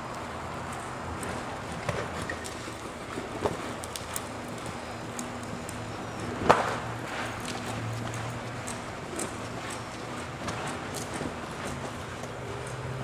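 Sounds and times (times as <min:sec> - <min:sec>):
steady low hum: 0:00.0 - 0:13.0
horse hooves thudding on dirt: 0:00.6 - 0:13.0.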